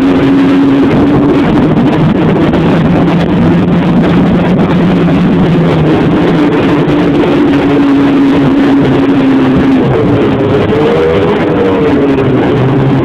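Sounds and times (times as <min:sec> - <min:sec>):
rushing noise: 0:00.0 - 0:13.0
snowmobile engine running: 0:00.0 - 0:13.0.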